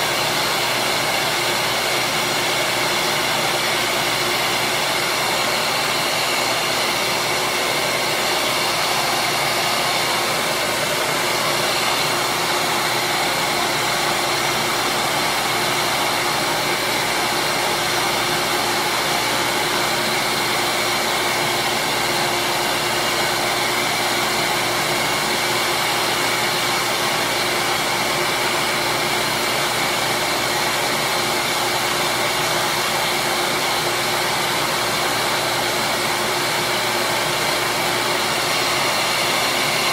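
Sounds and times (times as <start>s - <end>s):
bench grinder running: 0.0s - 39.9s.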